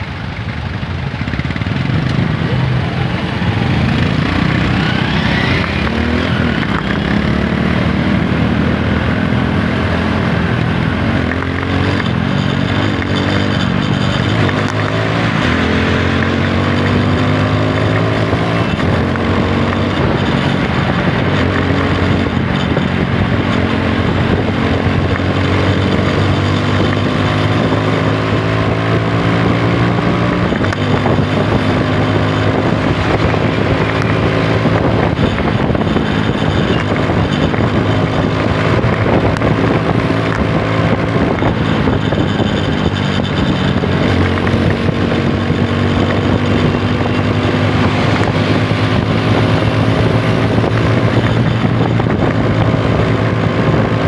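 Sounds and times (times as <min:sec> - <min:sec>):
motorcycle engine running: 0:00.0 - 0:54.0
wind on microphone: 0:00.7 - 0:54.0.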